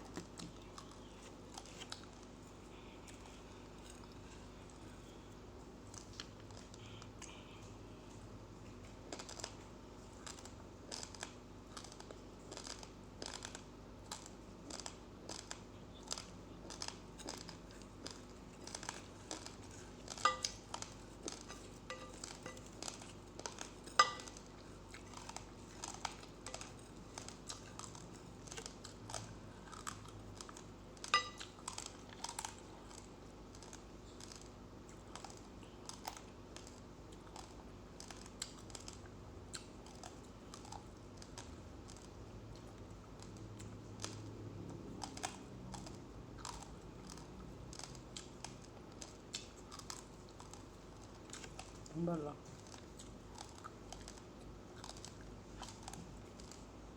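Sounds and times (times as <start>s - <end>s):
crunching of rice being chewed: 0.0s - 56.9s.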